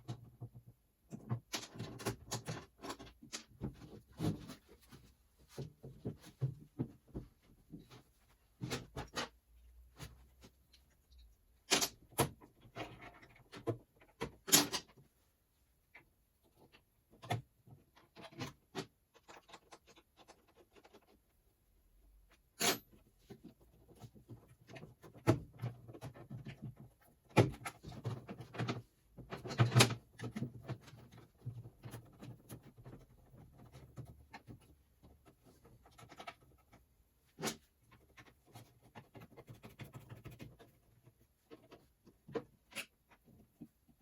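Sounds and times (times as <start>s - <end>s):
rustling of parts: 0.0s - 44.0s.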